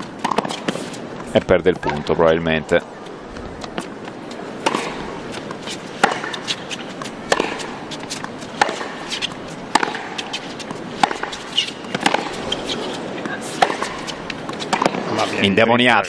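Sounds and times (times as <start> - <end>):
racket hitting tennis ball: 0.0 - 15.3.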